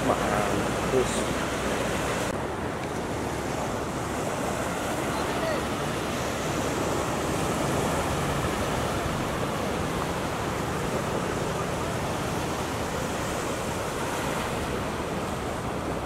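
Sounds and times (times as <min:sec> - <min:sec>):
surf washing on sandy shore: 0:00.0 - 0:16.0.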